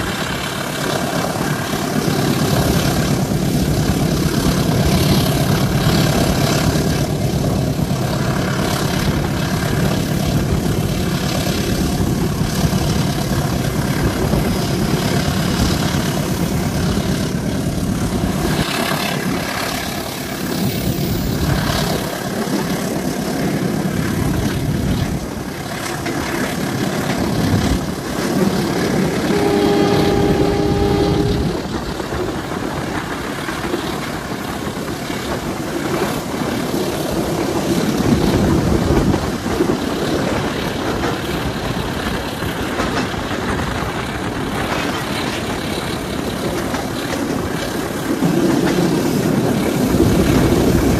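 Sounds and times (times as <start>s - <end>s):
locomotive engine drone: 0.0s - 50.9s
train wheels on rails: 0.0s - 50.9s.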